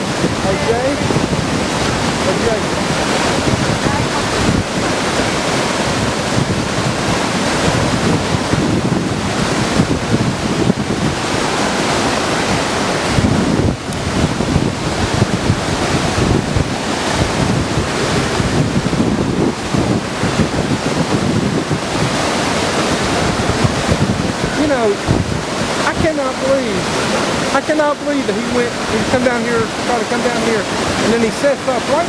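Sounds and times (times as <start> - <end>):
waterfall rushing: 0.0 - 32.0
wind buffeting microphone: 0.0 - 32.0.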